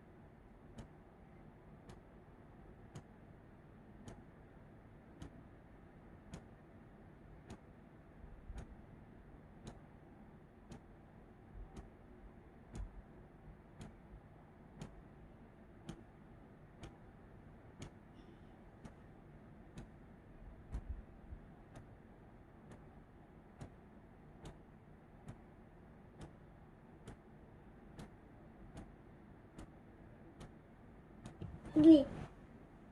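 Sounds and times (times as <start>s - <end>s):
low background hum: 0.0s - 32.9s.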